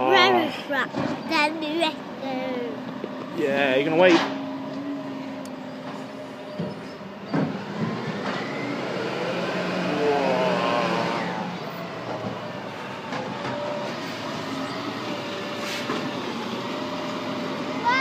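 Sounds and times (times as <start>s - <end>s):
refuse truck diesel engine passing: 0.0s - 18.0s.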